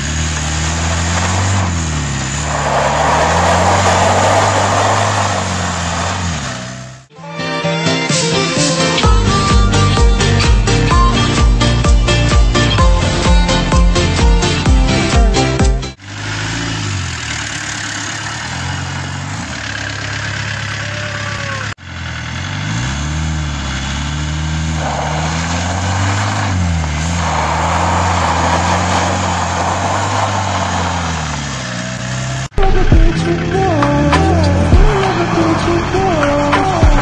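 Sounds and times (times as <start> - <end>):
diesel engine revving: 0.0 - 7.1, 9.0 - 37.0.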